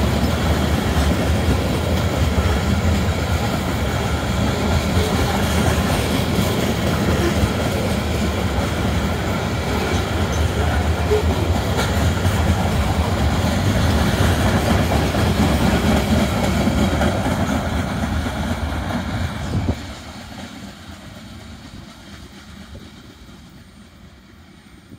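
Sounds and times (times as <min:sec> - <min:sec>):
freight train wheels clattering: 0:00.0 - 0:24.9.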